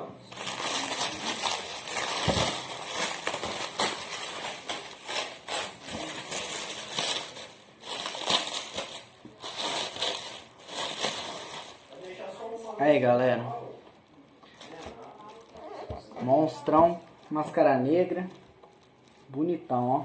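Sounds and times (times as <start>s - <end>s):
packing material rustling: 0.3s - 13.2s, 14.1s - 19.5s.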